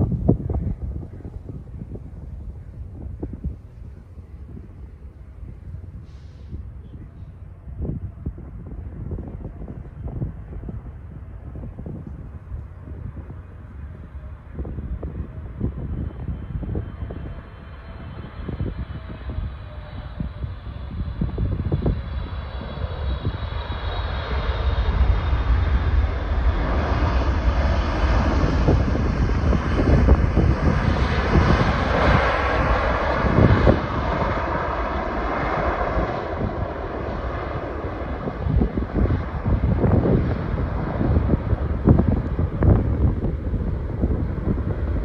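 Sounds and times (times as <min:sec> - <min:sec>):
jet engine roar: 0:00.0 - 0:45.0.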